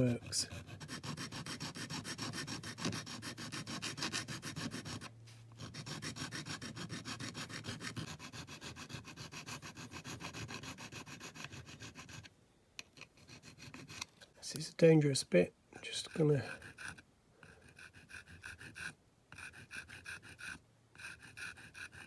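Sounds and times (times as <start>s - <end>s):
hand file rasping on metal: 0.0s - 12.3s, 13.2s - 14.1s, 15.8s - 22.0s.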